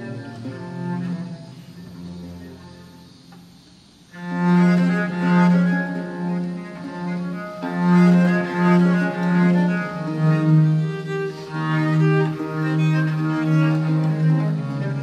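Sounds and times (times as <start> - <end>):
bowed string music: 0.0 - 15.0.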